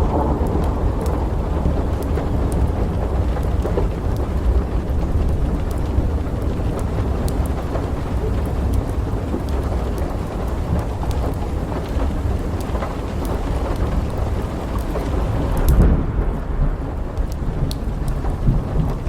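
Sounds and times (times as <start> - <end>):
rolling thunder: 0.0 - 19.0
steady rain: 0.0 - 19.0.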